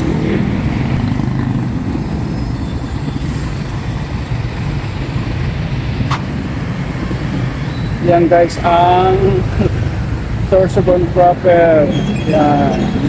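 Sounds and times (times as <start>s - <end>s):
traffic engines din: 0.0s - 13.0s.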